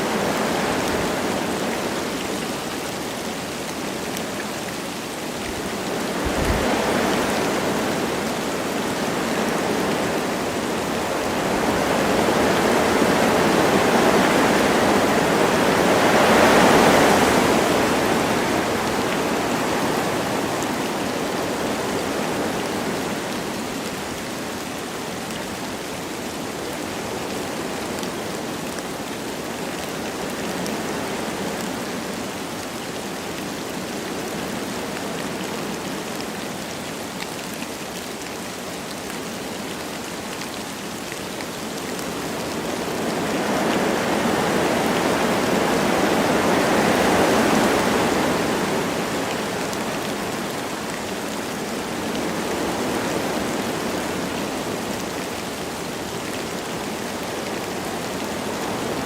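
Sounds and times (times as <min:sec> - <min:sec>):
light rain falling: 0:00.0 - 0:59.0
wind through forest trees: 0:00.0 - 0:59.0.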